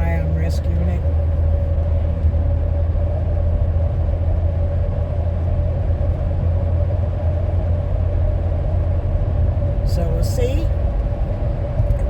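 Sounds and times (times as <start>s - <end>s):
car cabin rumble: 0.0s - 12.0s
faint constant whine: 0.0s - 12.0s.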